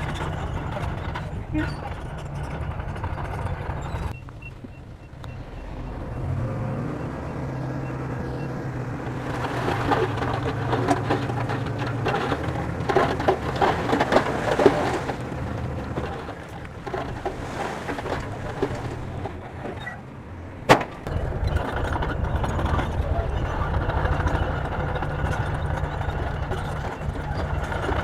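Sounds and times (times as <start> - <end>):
heavy clattering and crunching: 0.0 - 4.2, 8.7 - 28.0
bulldozer diesel engine running: 0.0 - 28.0.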